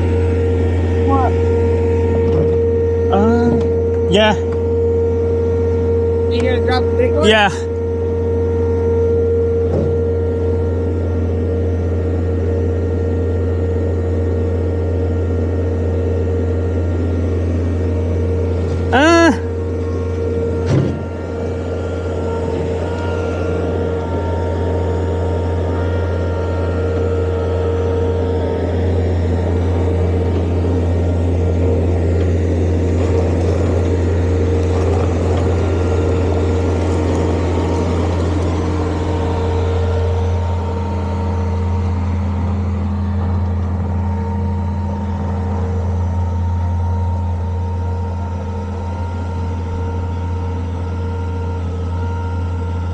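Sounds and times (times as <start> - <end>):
loader engine running: 0.0 - 52.9.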